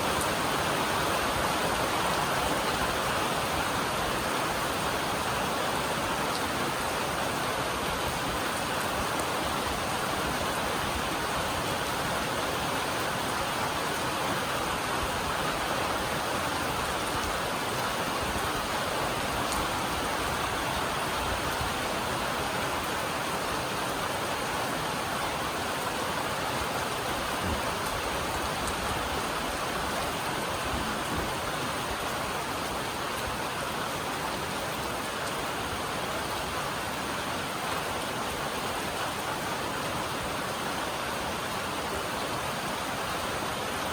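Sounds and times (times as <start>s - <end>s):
heavy rain on a metal roof: 0.0s - 43.9s.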